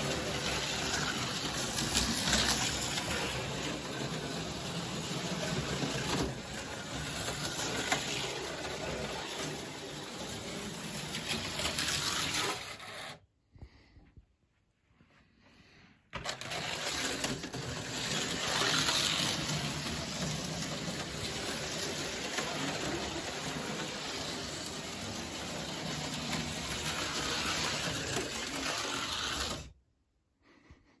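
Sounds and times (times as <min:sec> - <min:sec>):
slot cars whirring on plastic track: 0:00.0 - 0:13.2, 0:16.2 - 0:29.8.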